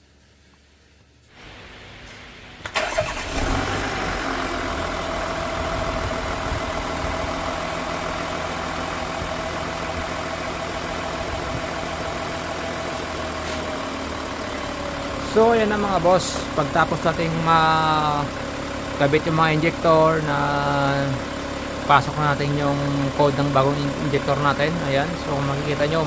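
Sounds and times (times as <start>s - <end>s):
diesel engine starting and idling: 2.4s - 26.0s.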